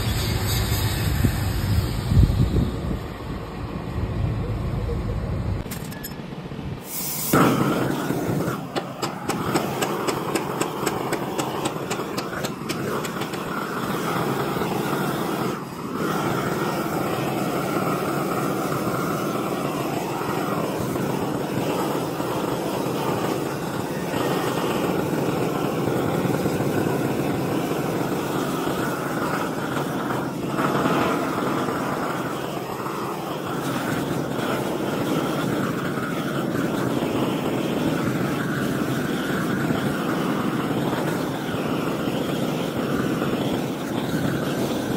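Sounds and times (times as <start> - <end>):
torch flame rushing: 0.0 - 44.9.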